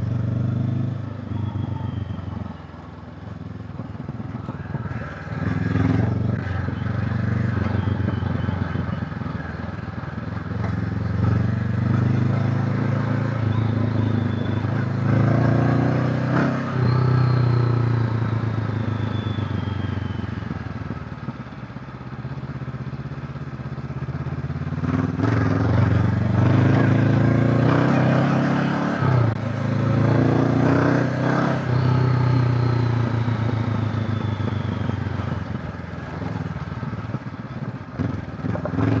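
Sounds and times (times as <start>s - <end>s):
motorcycle engine revving: 3.8s - 21.1s, 23.9s - 39.0s.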